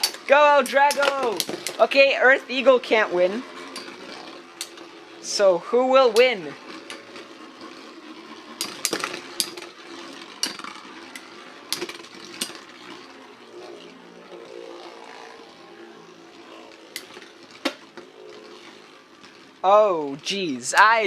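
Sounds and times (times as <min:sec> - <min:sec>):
spinning tops clacking together: 0:00.0 - 0:02.6, 0:03.3 - 0:05.2, 0:06.0 - 0:14.0, 0:14.6 - 0:19.6
spinning tops whirring: 0:00.0 - 0:21.0.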